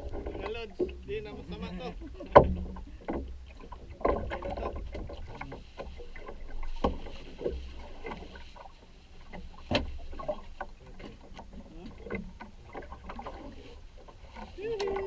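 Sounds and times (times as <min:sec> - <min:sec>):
hollow knocks on boat: 0:00.0 - 0:15.0
water splashing: 0:00.0 - 0:15.0.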